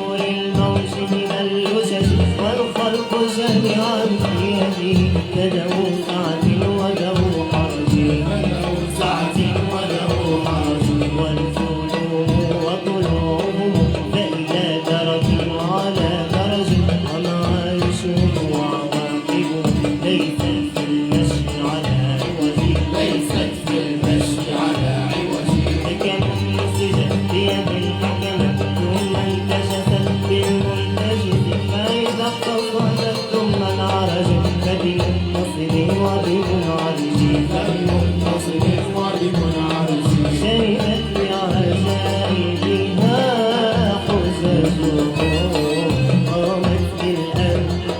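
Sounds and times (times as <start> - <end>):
drum strokes: 0.0 - 47.9
wavering melodic instruments: 0.0 - 47.9.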